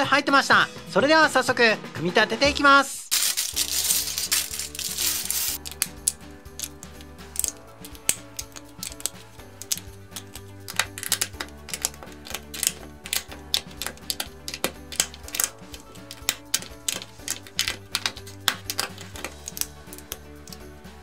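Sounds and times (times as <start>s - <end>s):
light background music: 0.0s - 21.0s
plastic bricks clicking together: 3.1s - 20.6s.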